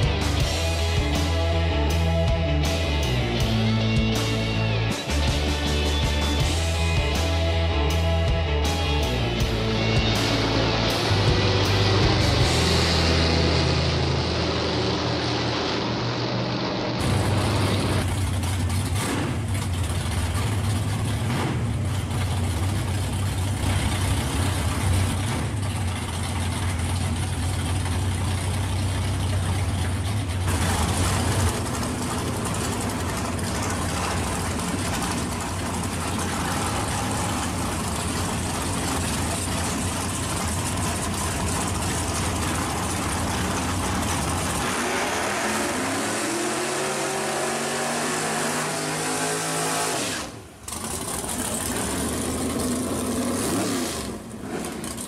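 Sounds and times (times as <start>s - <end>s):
drag car engines idling: 0.0s - 48.7s, 50.2s - 55.0s.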